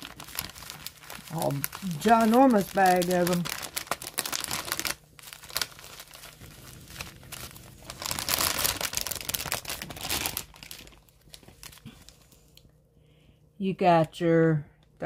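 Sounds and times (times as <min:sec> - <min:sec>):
plastic bags crinkling: 0:00.0 - 0:12.5.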